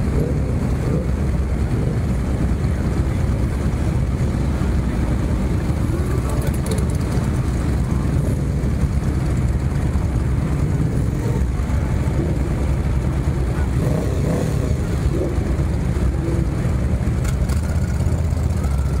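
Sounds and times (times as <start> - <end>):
crowd voices: 0.0 - 19.0
motorcycle engines rumbling: 0.0 - 19.0.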